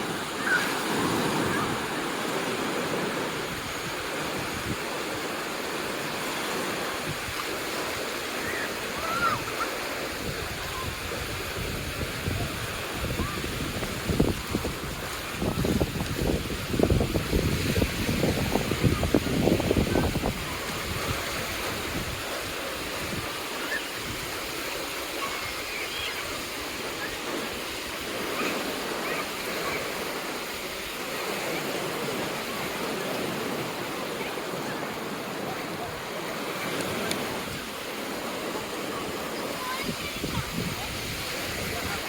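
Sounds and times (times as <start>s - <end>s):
waves breaking on beach: 0.0s - 42.0s.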